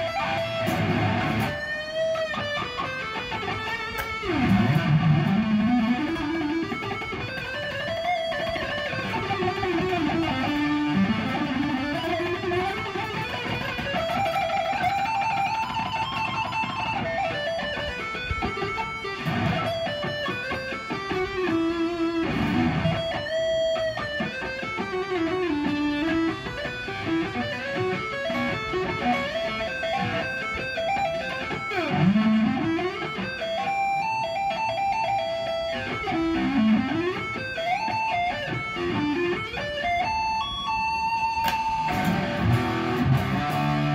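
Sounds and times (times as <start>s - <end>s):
electric guitar with pitch bends: 0.0s - 43.9s.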